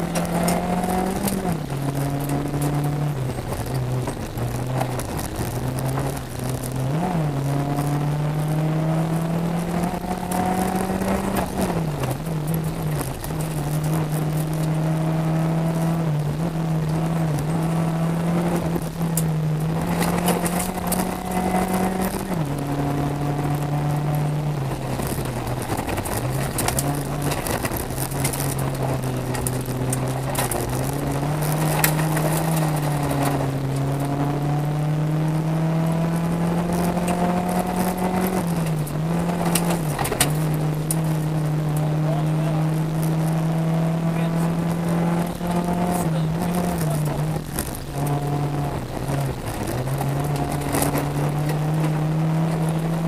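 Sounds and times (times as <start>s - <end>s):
gravel rattling against car: 0.0s - 53.0s
rally car engine: 0.0s - 53.0s.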